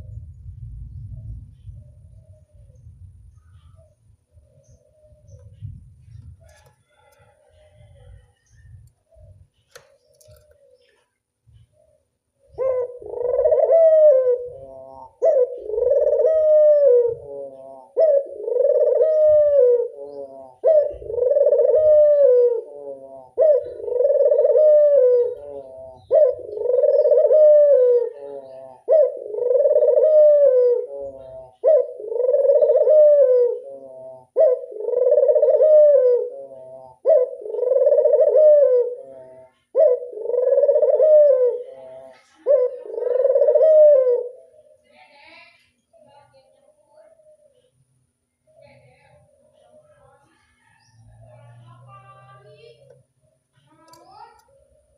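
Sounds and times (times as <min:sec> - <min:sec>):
dove cooing: 0:01.1 - 0:45.1, 0:45.9 - 0:47.8, 0:54.4 - 0:54.9.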